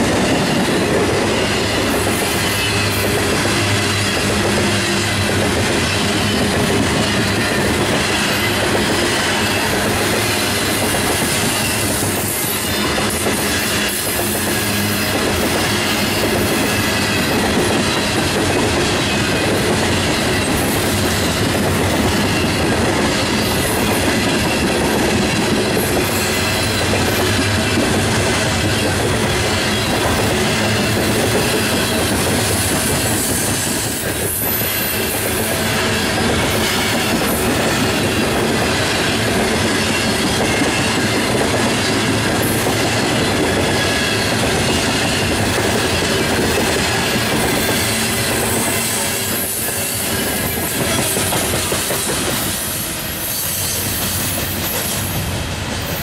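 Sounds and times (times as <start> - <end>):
steel wheels rushing on rails: 0.0 - 56.0
high wheel squeal: 0.1 - 55.3.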